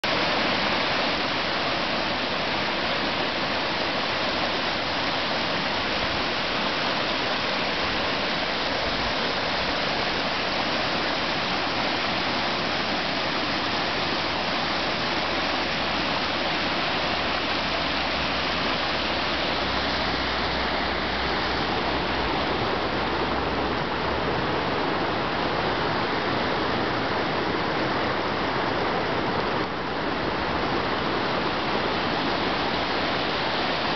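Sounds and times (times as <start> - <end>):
river water rushing over spillway: 0.0 - 33.9.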